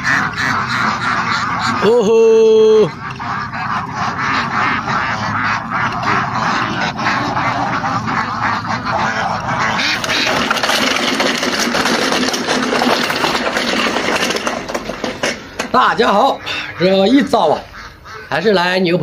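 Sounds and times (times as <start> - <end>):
flock of ducks quacking: 0.0 - 19.0.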